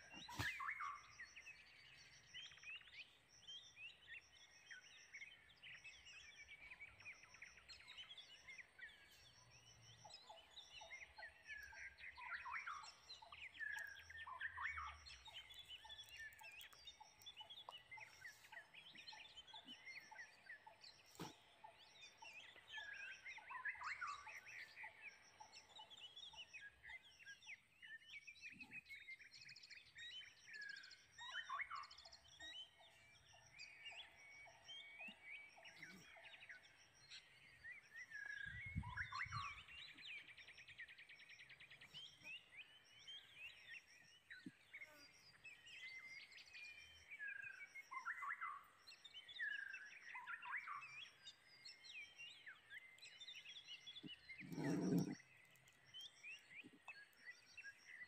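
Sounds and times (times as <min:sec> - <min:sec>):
wild birds chirping and warbling: 0:00.0 - 0:58.0.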